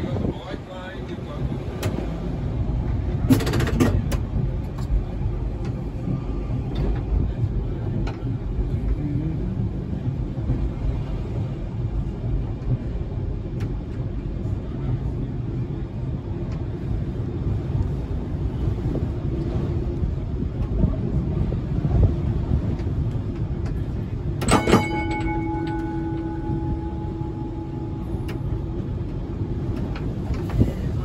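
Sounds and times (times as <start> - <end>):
tram rumbling along track: 0.0 - 31.0.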